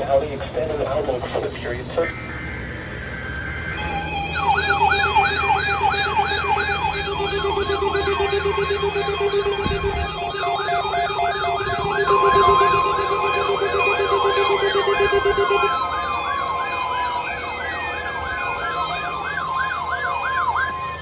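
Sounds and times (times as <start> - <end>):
wavering siren-like tone: 0.6 - 21.0
pulsing lower tone: 0.8 - 21.0
falling whistle-like sweeps: 2.2 - 21.0
steady alert tone: 2.2 - 21.0.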